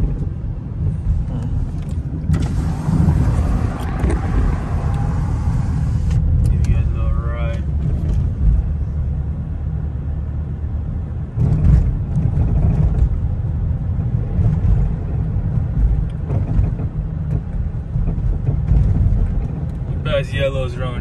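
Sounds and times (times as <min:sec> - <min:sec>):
car engine low rumble: 0:00.0 - 0:21.0
road noise inside car: 0:00.0 - 0:21.0.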